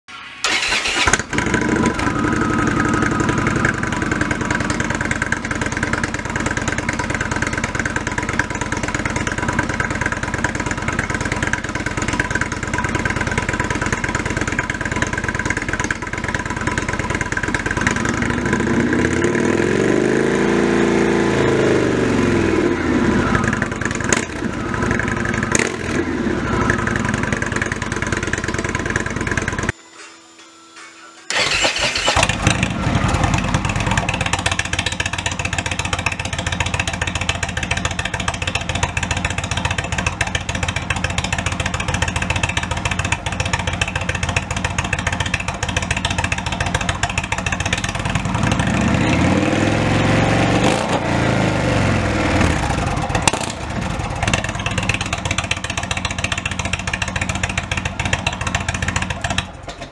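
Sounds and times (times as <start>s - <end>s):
motorcycle engine starting and idling: 0.1s - 29.8s, 31.3s - 59.9s
motorcycle engine revving: 0.4s - 29.7s, 31.3s - 59.9s.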